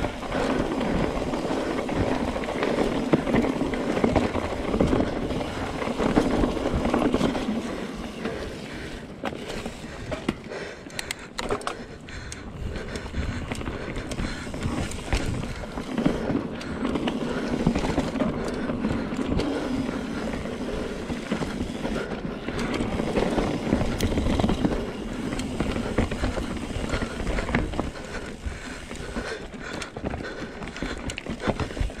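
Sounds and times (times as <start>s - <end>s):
bike rattling and knocking: 0.0s - 32.0s
bike tyres rolling over dirt: 0.0s - 32.0s.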